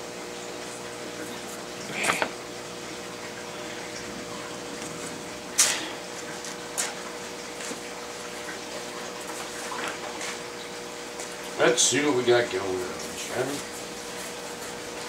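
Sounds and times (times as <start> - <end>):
aquarium equipment hum: 0.0 - 15.0.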